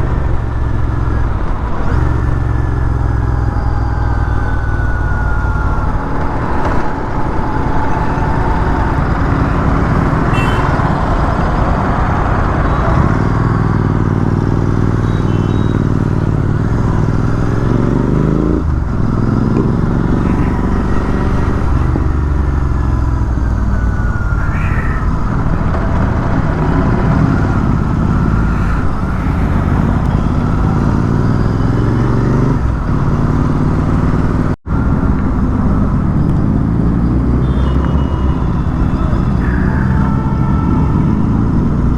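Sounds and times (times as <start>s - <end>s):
wind rushing over microphone: 0.0s - 15.0s, 15.8s - 41.9s.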